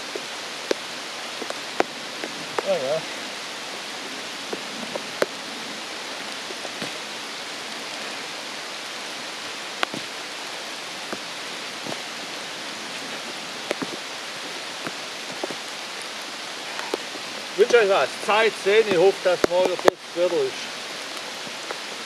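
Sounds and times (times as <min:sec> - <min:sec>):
raindrops ticking close by: 0:00.0 - 0:22.0
steady rain in a forest: 0:00.0 - 0:22.0.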